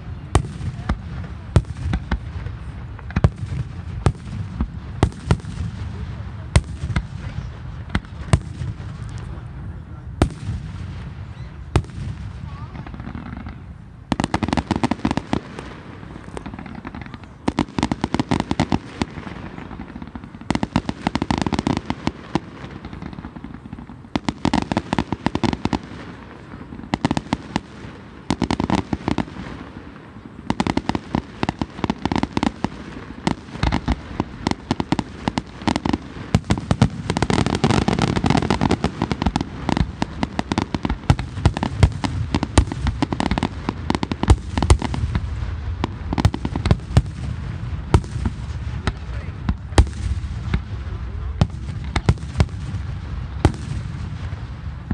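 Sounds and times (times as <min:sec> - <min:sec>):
fireworks bursting and crackling: 0:00.0 - 0:54.9.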